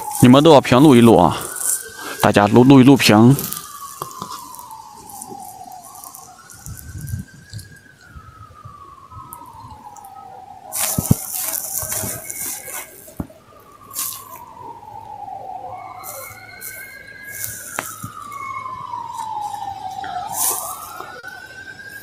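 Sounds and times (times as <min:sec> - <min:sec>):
crackling bursts: 0:00.0 - 0:22.0
emergency siren wailing: 0:00.0 - 0:22.0.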